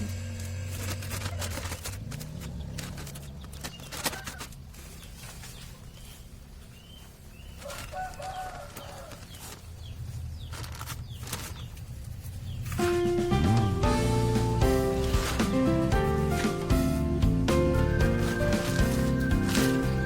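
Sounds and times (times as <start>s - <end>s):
birds calling: 0.0s - 20.0s
hands working soil: 0.0s - 20.0s
plastic bag rustling: 0.5s - 13.0s, 14.2s - 20.0s.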